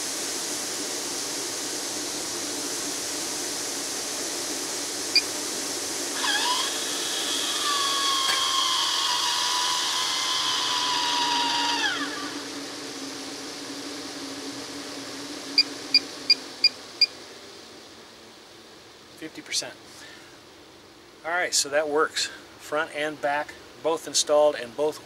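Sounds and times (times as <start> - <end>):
vent fan motor whining: 0.0 - 21.8.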